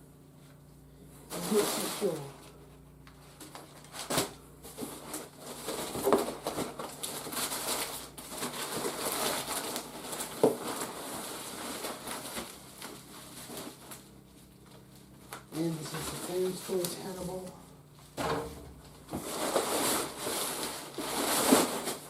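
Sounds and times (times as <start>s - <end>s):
packaging rustling and crinkling: 3.2s - 17.5s, 18.1s - 22.0s.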